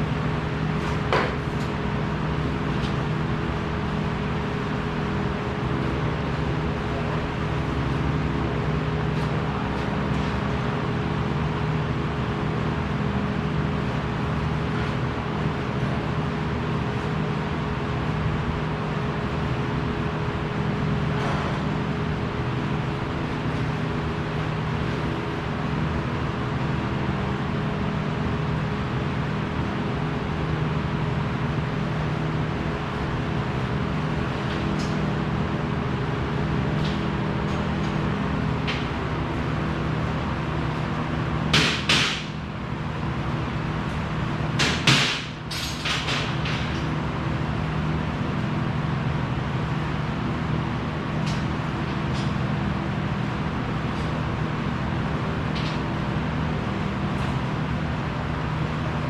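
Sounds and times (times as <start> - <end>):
shop machinery humming: 0.0 - 59.0.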